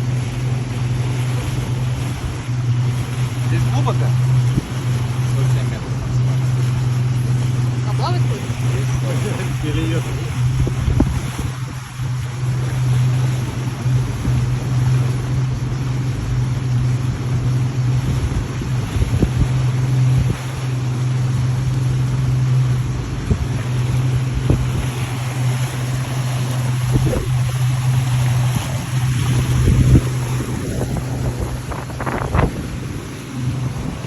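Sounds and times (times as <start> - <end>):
motorboat engine droning: 0.0 - 34.0
wind buffeting microphone: 0.0 - 34.0
low thumps: 1.9 - 34.0.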